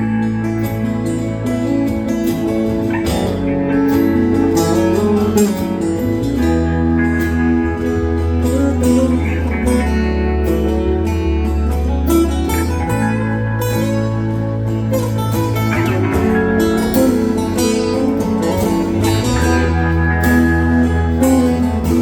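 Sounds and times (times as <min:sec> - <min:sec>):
guitar: 0:00.0 - 0:22.0
live band playing instrumental: 0:00.0 - 0:22.0
steady bass line: 0:00.0 - 0:22.0.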